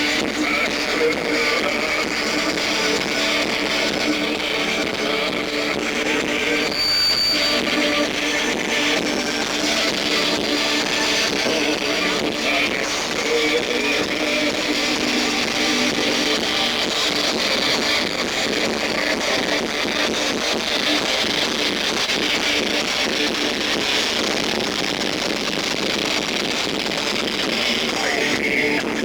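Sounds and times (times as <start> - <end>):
distorted electric guitars: 0.0 - 29.0.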